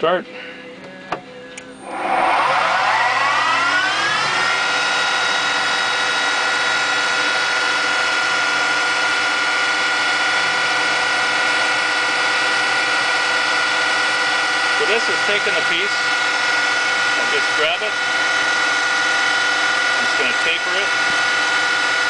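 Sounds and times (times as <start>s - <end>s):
lathe motor whine: 1.7s - 22.0s.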